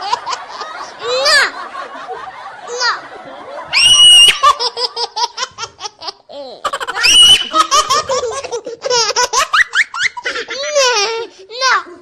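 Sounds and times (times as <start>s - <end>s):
high-pitched laughter: 0.0s - 1.9s, 2.6s - 11.2s.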